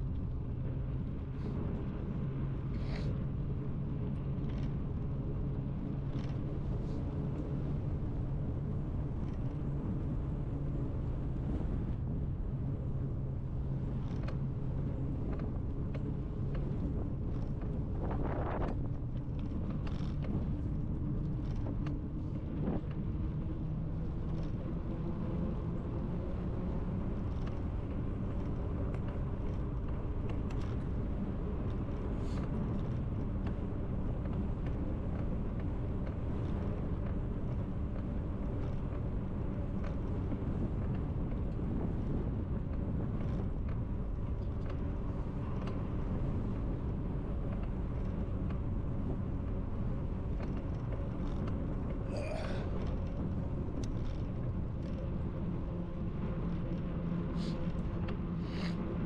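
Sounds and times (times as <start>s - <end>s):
wind and bicycle tyre noise: 0.0s - 59.0s.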